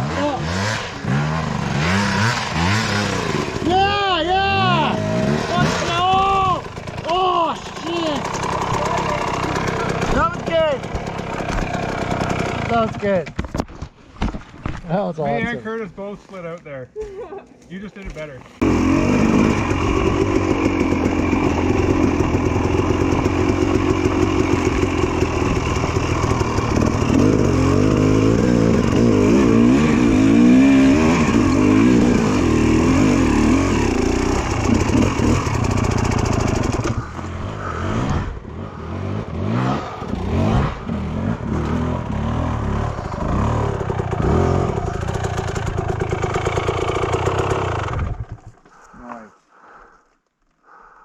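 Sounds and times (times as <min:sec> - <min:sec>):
dirt bike engine revving: 0:00.0 - 0:13.1, 0:18.6 - 0:48.5.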